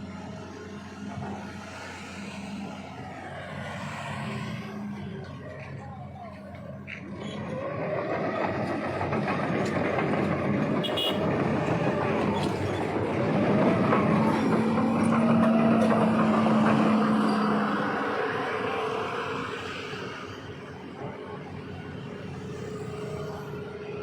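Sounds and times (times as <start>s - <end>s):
heavy vehicle engine passing: 0.0s - 24.0s.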